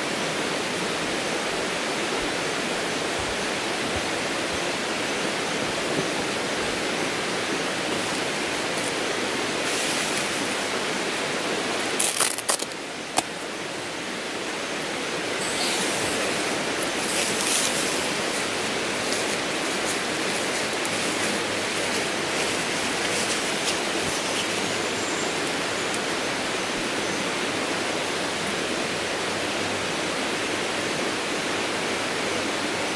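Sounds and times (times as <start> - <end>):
running water rushing: 0.0 - 32.9.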